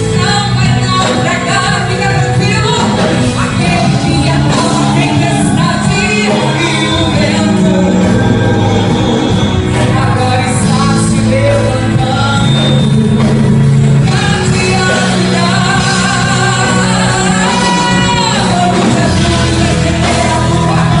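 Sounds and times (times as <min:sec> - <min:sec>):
instrumental accompaniment: 0:00.0 - 0:21.0
woman singing gospel: 0:00.0 - 0:21.0.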